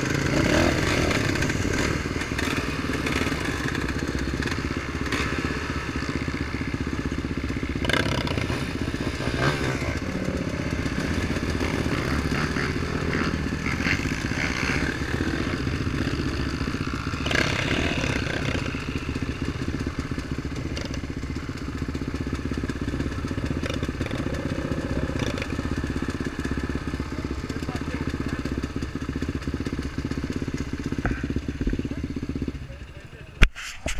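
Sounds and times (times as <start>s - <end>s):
off-road vehicle engine running: 0.0s - 33.9s.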